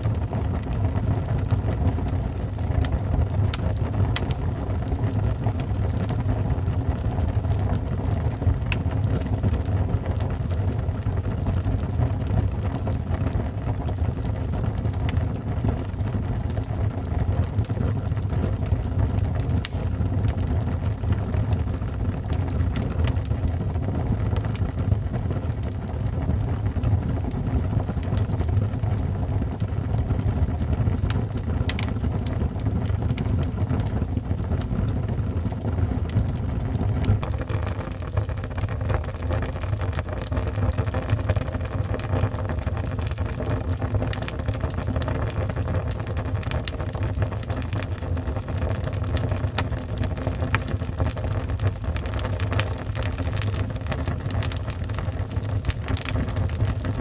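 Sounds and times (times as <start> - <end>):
fire crackling and popping: 0.0 - 57.0
wood fire roaring: 0.0 - 57.0.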